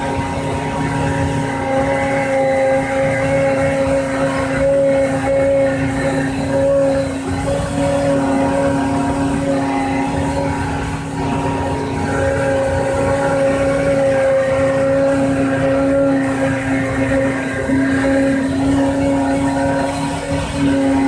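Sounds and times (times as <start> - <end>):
machine spindle motor humming: 0.0 - 21.0.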